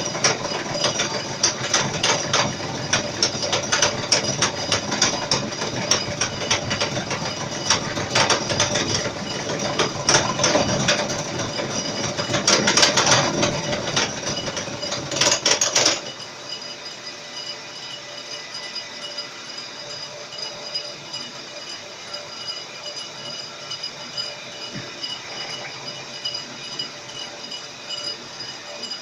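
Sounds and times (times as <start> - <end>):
milling cutter chattering on metal: 0.0 - 29.0.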